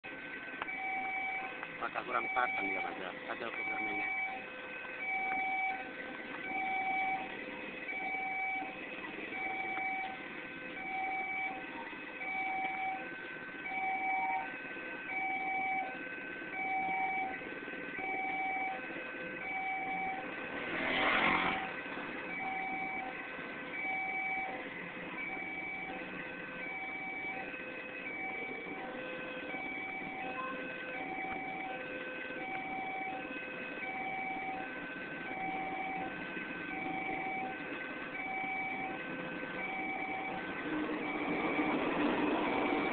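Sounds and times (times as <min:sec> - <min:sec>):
level crossing two-tone alarm: 0:00.0 - 0:42.9.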